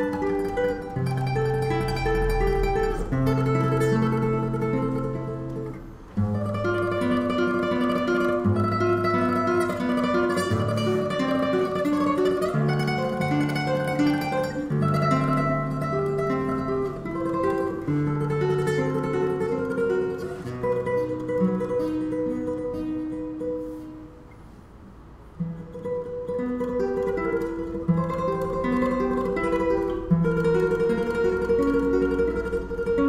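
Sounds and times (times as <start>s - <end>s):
classical guitar tremolo: 0.0s - 33.0s.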